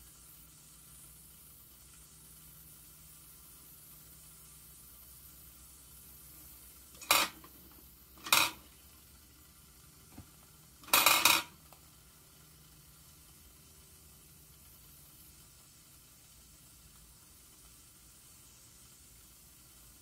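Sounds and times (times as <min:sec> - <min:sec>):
clattery sizzling bursts: 0:00.0 - 0:20.0.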